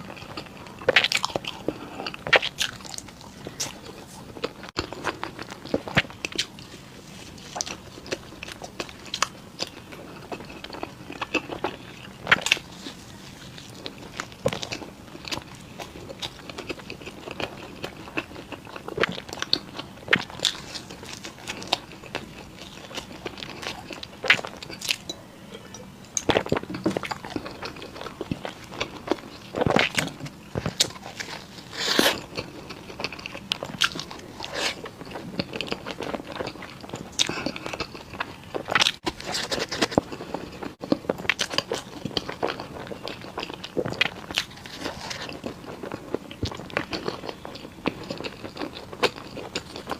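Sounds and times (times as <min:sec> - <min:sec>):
crunchy pastry chewing: 0:00.0 - 0:49.9.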